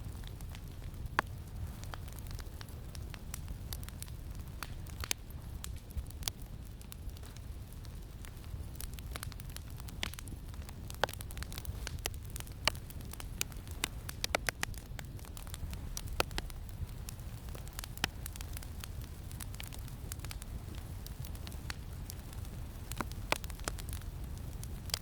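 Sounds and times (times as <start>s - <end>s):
campfire crackling: 0.0s - 25.0s
low rumble of wind: 0.0s - 25.0s.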